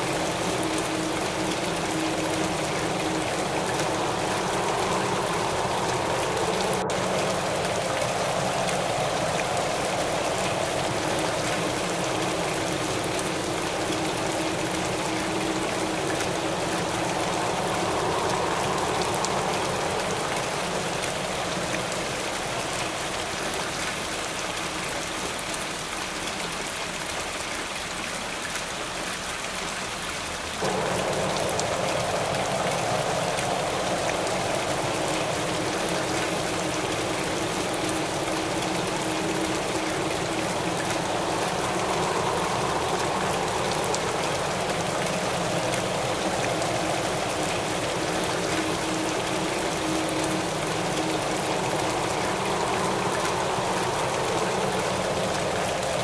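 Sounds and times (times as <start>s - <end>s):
heavy rain falling: 0.0s - 56.0s
wind: 0.0s - 56.0s.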